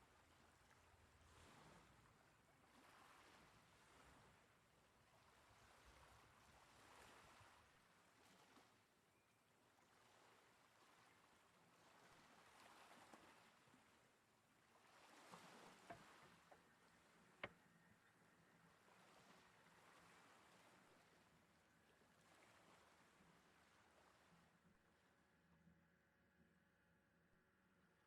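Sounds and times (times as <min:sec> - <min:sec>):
faint outdoor hiss: 0:00.0 - 0:28.0.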